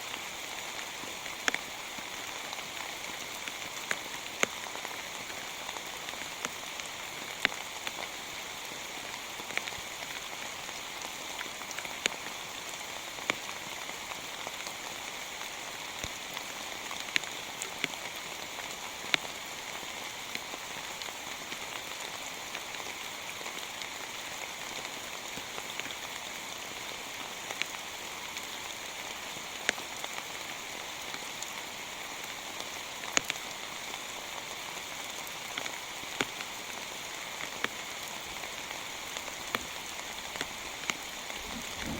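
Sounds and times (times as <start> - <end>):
heavy rain falling: 0.1 - 41.9.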